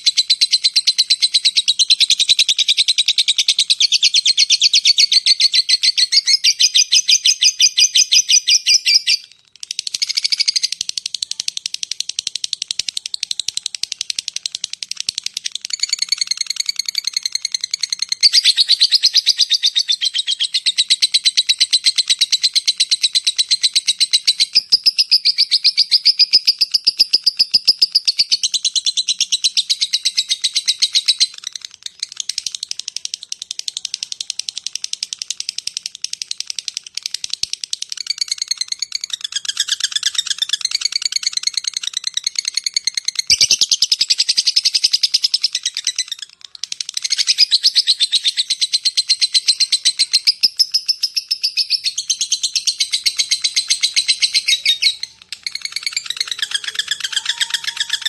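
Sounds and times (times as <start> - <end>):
lovebird chattering trill: 0.0 - 58.0.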